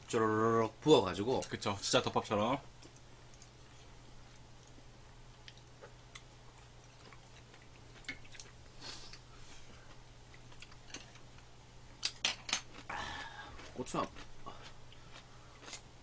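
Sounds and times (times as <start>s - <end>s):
steady low hum: 0.0s - 16.0s
faint chewing: 2.8s - 15.9s.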